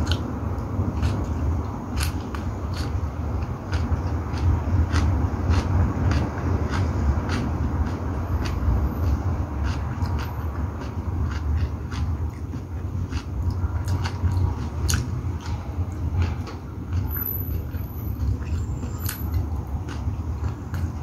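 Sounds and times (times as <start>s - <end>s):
person chewing food: 0.0s - 21.0s
steady low rumble: 0.0s - 21.0s.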